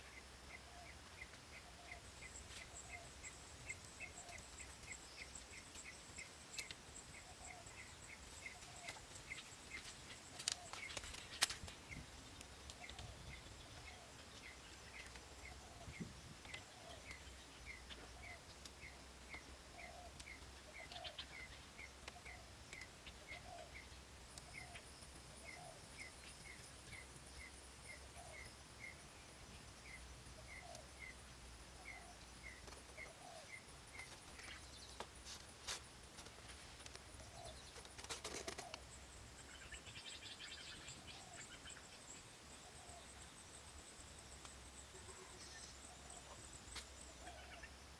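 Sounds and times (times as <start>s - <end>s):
bird chirping: 0.0s - 35.2s, 36.3s - 47.9s
insect hum: 0.0s - 47.9s.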